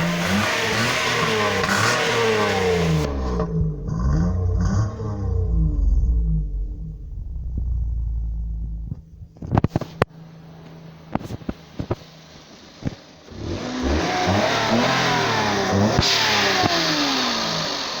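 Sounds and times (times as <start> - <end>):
engine rumbling and revving: 0.0 - 9.8, 13.2 - 18.0.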